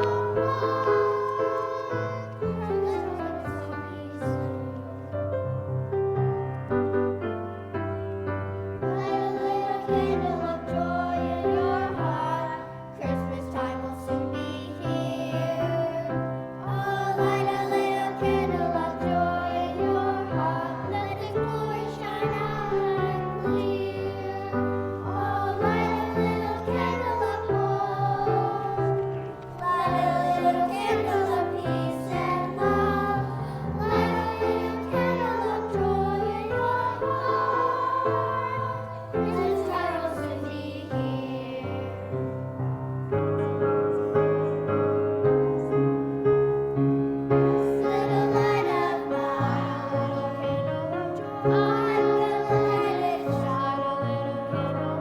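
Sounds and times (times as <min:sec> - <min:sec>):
children's choir singing: 0:00.0 - 0:55.0
keyboard accompaniment: 0:00.0 - 0:55.0.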